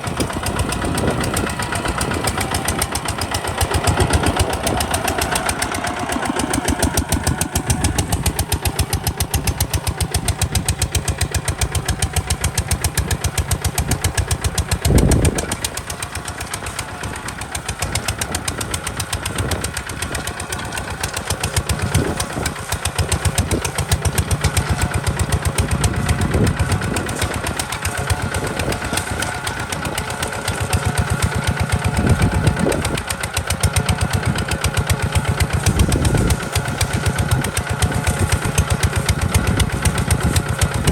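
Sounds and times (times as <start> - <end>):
single-cylinder diesel engine running: 0.0 - 40.9.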